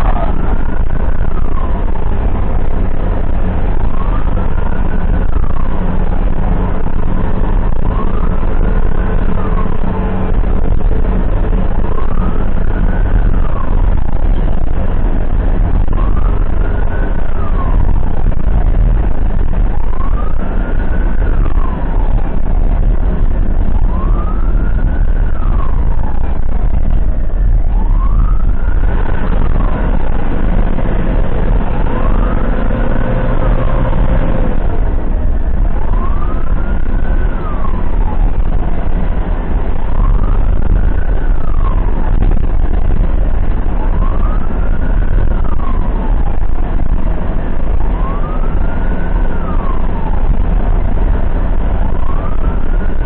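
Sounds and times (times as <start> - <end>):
ambulance siren wailing: 0.0 - 53.0
engine rumble and road noise: 0.0 - 53.0.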